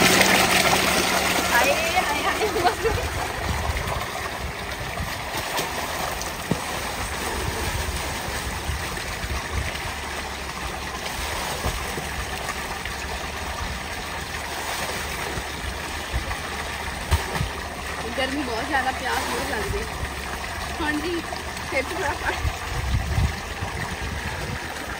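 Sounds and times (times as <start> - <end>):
water gushing into a tank: 0.0 - 24.9.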